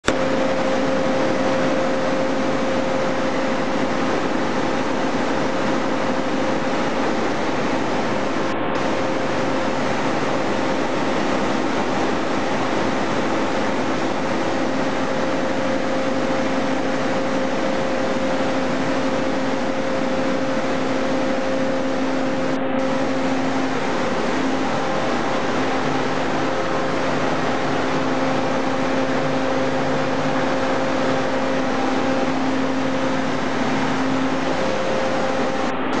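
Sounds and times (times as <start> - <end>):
diesel generator running: 0.0 - 36.0.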